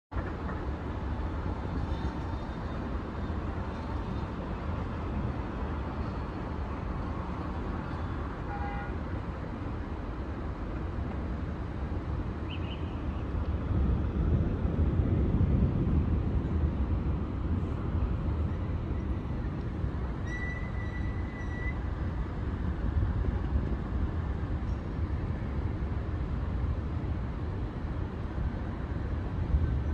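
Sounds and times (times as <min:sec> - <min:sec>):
street traffic rumble: 0:00.1 - 0:29.9
wind and heavy rain: 0:00.1 - 0:29.9.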